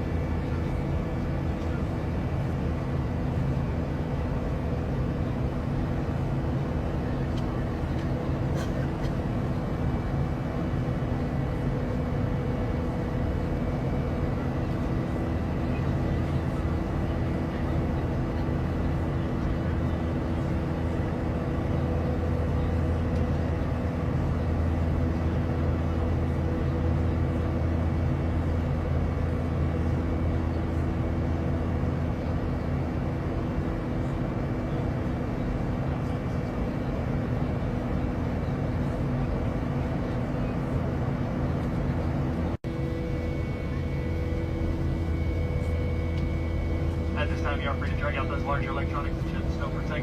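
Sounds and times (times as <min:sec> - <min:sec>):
airliner engine and airflow drone: 0:00.0 - 0:50.0
steady hum tones: 0:00.0 - 0:50.0.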